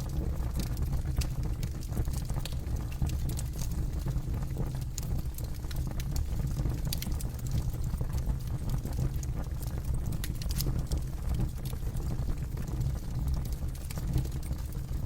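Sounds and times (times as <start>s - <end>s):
burning wood crackling and popping: 0.0s - 15.0s
low fire rumble: 0.0s - 15.0s.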